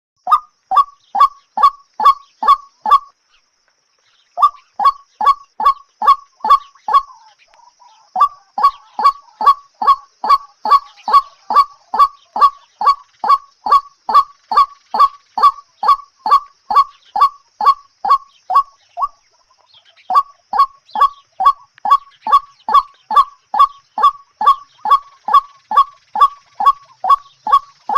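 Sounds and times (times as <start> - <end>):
bird calling: 0.2 - 27.9.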